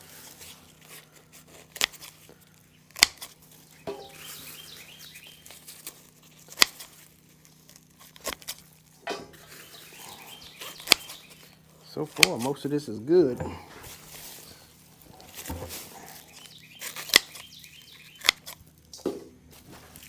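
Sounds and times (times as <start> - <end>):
faint steady hum: 0.0 - 20.0
garlic bulbs rustling: 0.0 - 20.0.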